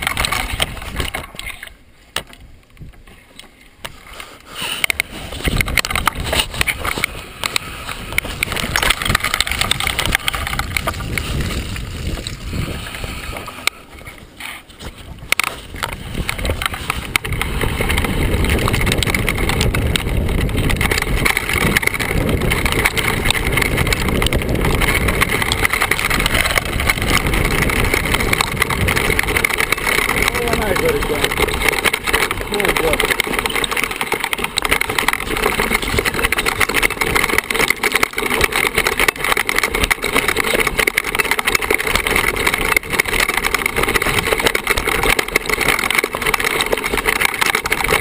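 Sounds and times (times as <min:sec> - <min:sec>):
wind buffeting microphone: 0:00.0 - 0:01.4, 0:04.9 - 0:48.0
bike frame and chain clattering: 0:00.0 - 0:48.0
bike tyres crunching over stones: 0:00.0 - 0:48.0.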